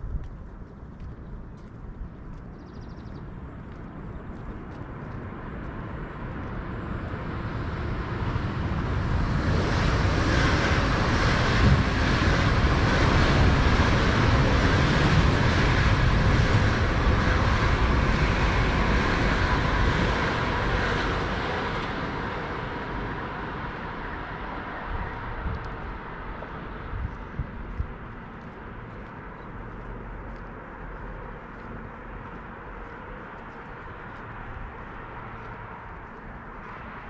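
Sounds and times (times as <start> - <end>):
train passing on tracks: 0.0 - 37.0.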